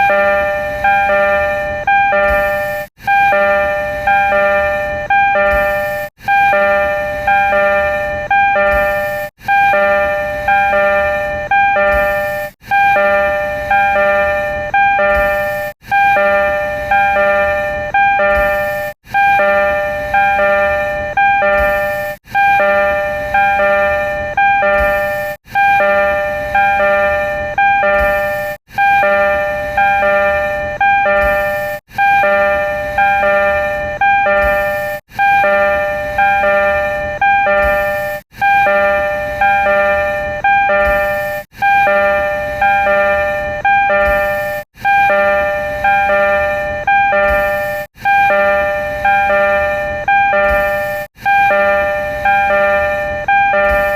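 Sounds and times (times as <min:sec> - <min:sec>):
electronic train door chime: 0:00.0 - 0:53.9.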